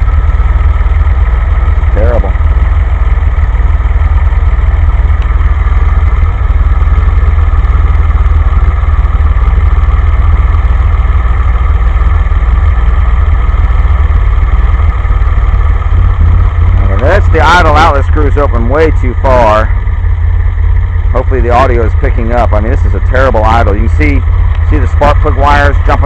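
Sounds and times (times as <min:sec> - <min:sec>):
car engine idling roughly: 0:00.0 - 0:26.0.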